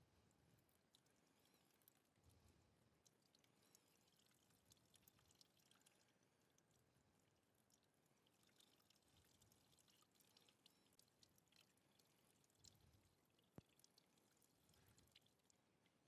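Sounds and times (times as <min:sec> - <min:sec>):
coolant trickling and dripping: 0:00.1 - 0:16.0.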